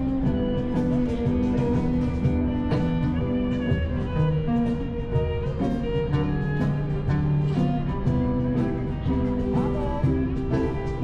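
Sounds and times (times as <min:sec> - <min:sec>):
plucked guitar music: 0:00.0 - 0:11.0
steady held notes: 0:00.0 - 0:11.0.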